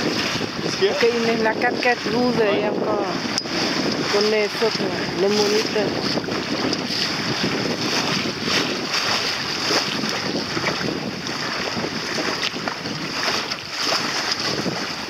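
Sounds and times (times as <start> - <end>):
water splashing against boat: 0.0 - 15.0
wind buffeting microphone: 0.0 - 15.0.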